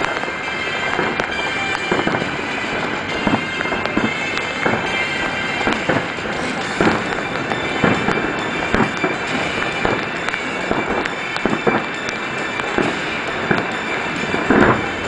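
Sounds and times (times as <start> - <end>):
continuous noisy wash: 0.0 - 15.0
fireworks bursting: 0.0 - 15.0.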